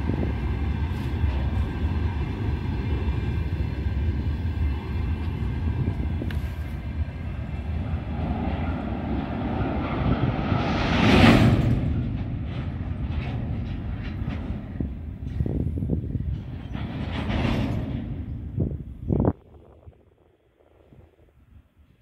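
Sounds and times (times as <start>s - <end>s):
freight wagons rumbling on rails: 0.0s - 21.6s.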